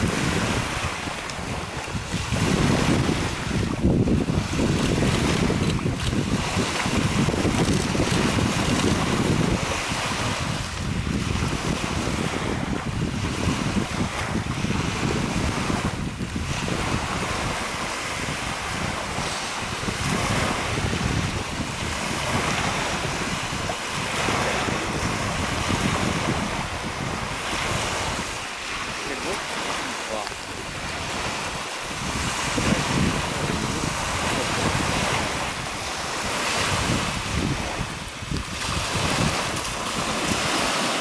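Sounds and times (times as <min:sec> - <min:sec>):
waves lapping on pebbly shore: 0:00.0 - 0:41.0
wind rumbling on microphone: 0:00.0 - 0:41.0.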